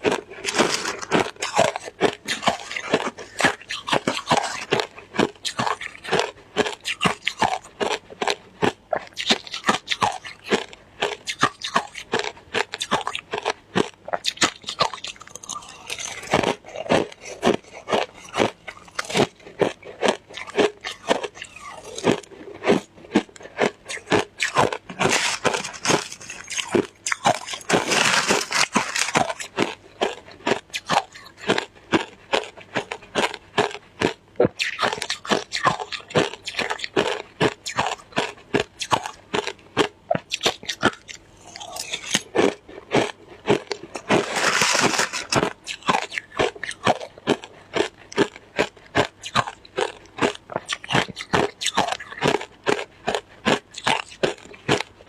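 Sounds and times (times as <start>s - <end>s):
ice being chewed crunching: 0.0s - 55.0s.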